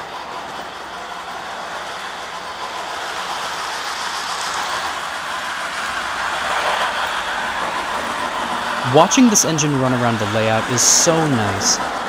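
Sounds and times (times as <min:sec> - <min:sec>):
toy train rolling on track: 0:00.0 - 0:12.0.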